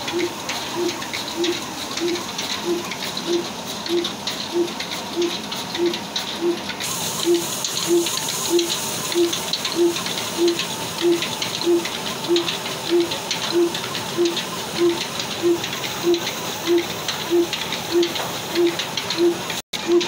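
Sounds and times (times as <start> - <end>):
diesel engine running slowly: 0.0 - 20.0
machine hissing and crackling: 0.0 - 20.0.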